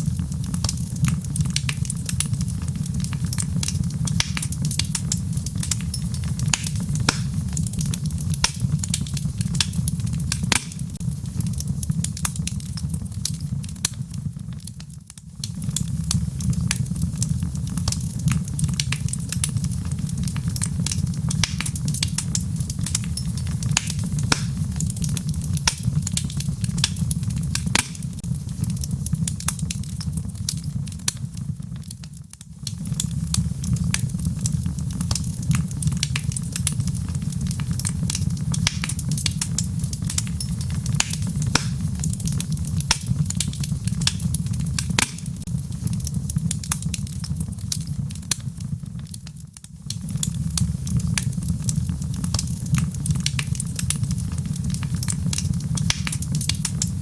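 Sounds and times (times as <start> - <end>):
logs crackling in fireplace: 0.0 - 57.0.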